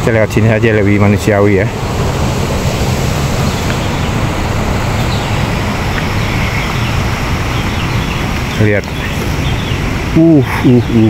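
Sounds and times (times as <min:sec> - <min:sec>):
waterfall rushing: 0:00.8 - 0:10.4.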